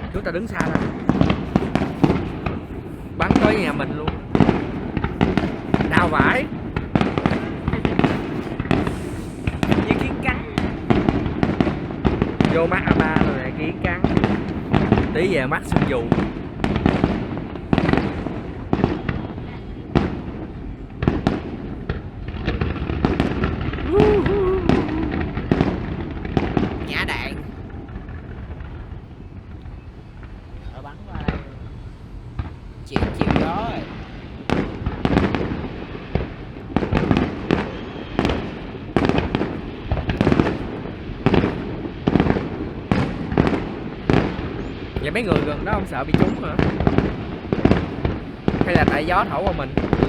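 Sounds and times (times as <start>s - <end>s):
fireworks bangs: 0.0s - 50.0s
fireworks crackling and rumbling: 0.0s - 50.0s.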